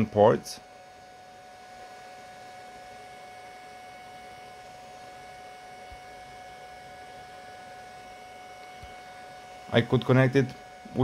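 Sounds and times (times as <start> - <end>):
faint electrical hum: 0.0 - 11.0
thin whine: 0.0 - 11.0.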